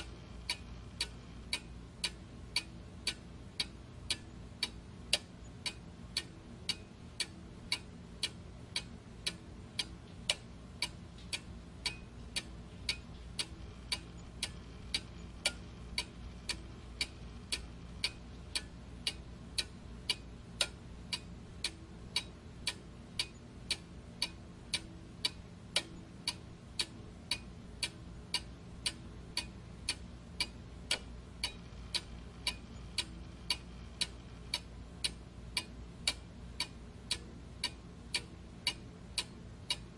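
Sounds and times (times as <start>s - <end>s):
low steady hum: 0.0s - 39.9s
steady ticking: 0.0s - 39.9s.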